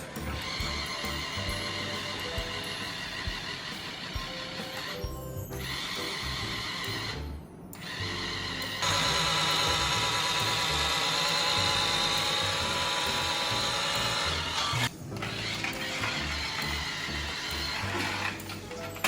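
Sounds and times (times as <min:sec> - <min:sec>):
small electric motor whining: 0:00.0 - 0:18.7.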